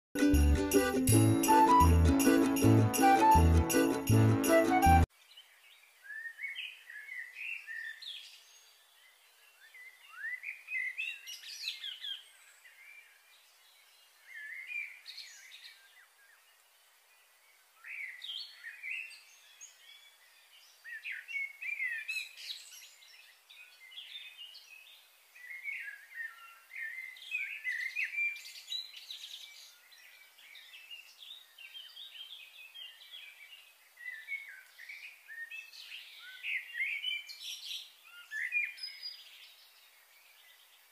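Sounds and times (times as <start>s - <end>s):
birds singing and chirping: 5.4s - 16.1s, 17.8s - 40.8s.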